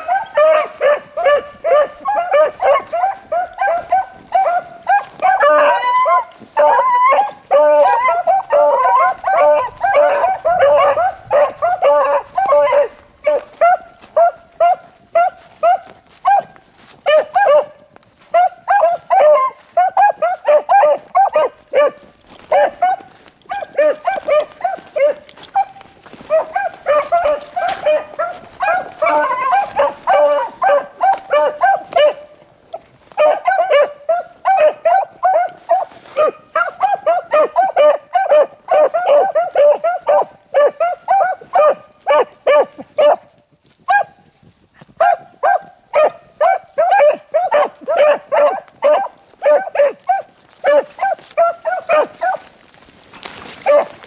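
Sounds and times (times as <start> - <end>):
beagles baying and barking: 0.0 - 54.0.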